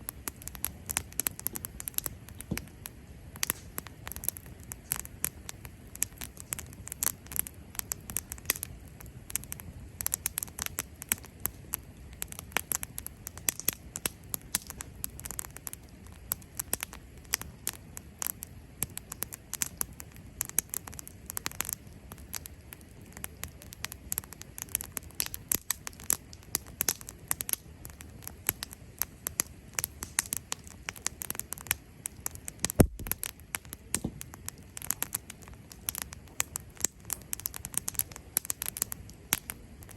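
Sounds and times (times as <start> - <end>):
campfire crackling and popping: 0.0 - 39.9
low steady rumble: 0.0 - 39.9.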